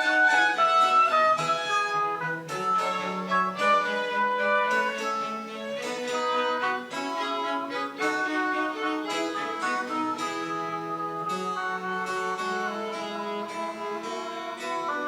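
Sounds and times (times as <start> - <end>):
bowed string melody: 0.0 - 15.0
plucked string accompaniment: 0.0 - 15.0.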